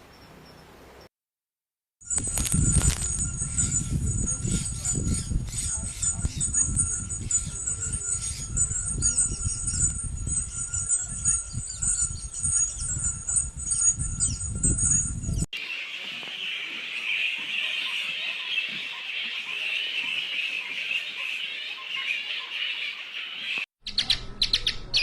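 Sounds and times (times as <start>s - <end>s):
bats squeaking and chittering: 2.1s - 24.1s.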